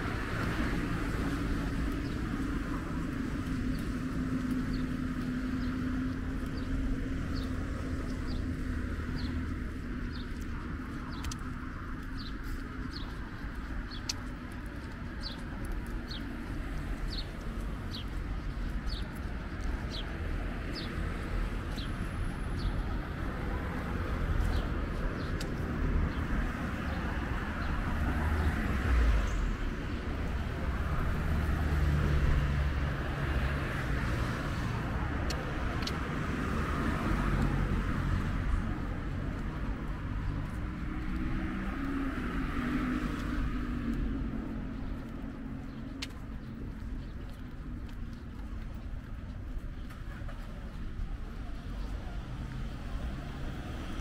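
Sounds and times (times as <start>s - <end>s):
cars passing: 0.0s - 54.0s
road traffic hum: 0.0s - 54.0s.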